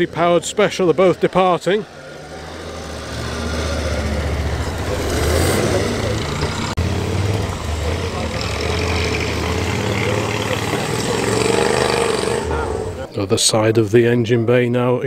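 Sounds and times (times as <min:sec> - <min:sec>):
vintage car engines running: 0:00.0 - 0:13.3.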